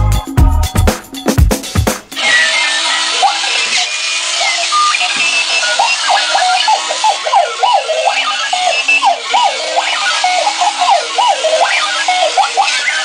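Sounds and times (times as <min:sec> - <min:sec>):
alarm clock beeping and warbling: 0:02.2 - 0:13.0
motor and wheels hissing: 0:02.2 - 0:13.0.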